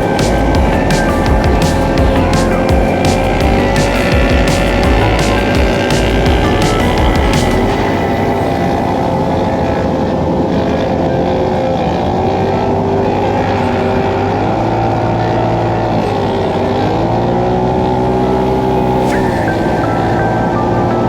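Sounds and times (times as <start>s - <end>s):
utv engine revving: 0.0s - 21.0s.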